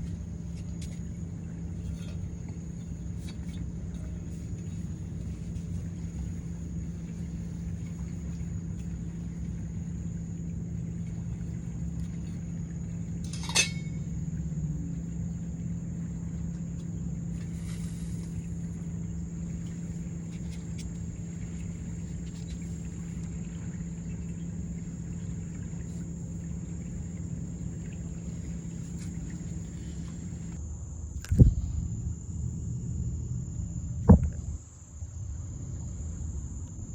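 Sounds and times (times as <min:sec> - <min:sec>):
low engine rumble: 0:00.0 - 0:36.9.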